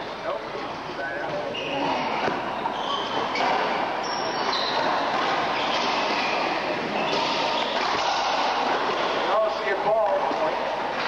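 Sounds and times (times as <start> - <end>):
hall and crowd noise: 0.0 - 11.0.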